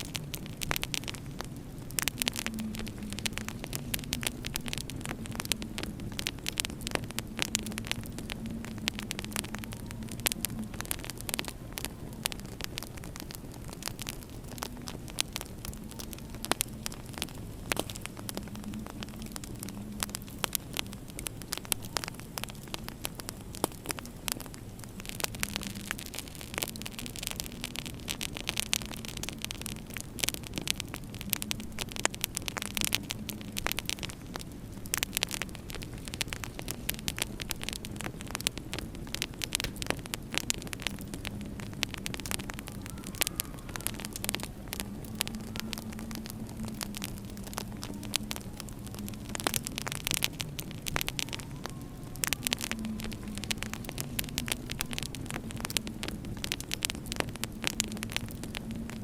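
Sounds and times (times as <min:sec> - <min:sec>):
low steady hum: 0:00.0 - 0:59.0
wood fire crackling: 0:00.0 - 0:59.0.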